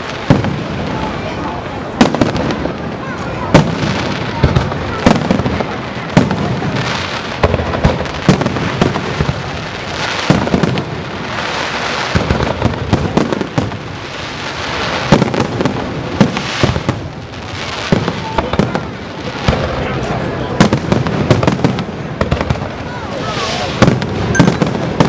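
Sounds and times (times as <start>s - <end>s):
fireworks bursting with loud bangs: 0.0s - 25.0s
fireworks crackling: 0.0s - 25.0s.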